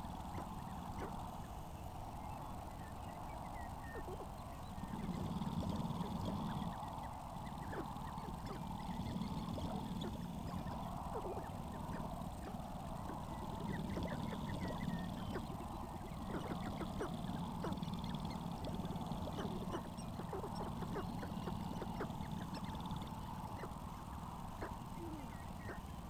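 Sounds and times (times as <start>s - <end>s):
grouse clucking and cackling: 0.0s - 26.0s.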